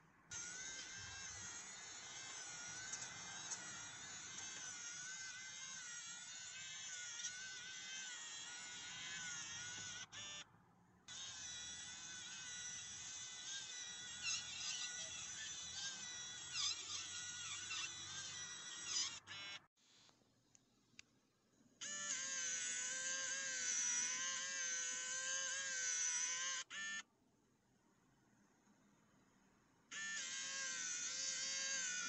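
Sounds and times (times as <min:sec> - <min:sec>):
blind motor whirring: 0:00.3 - 0:10.4, 0:11.1 - 0:19.6, 0:21.8 - 0:27.0, 0:29.9 - 0:32.0.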